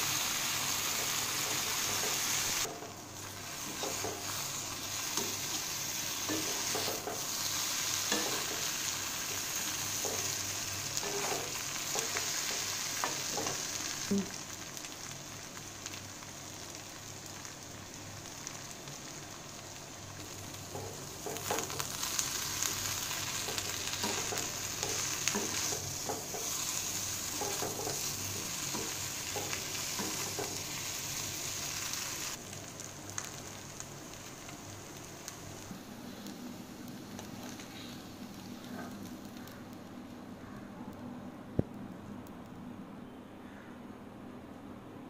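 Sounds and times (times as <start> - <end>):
food sizzling in oil: 0.0 - 39.6.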